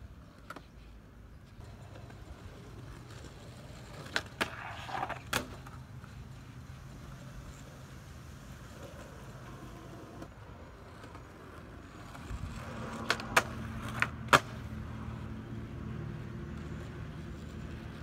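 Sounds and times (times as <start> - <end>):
skateboard wheels rolling on concrete: 0.0 - 18.0
skateboard clacking on pavement: 1.6 - 18.0.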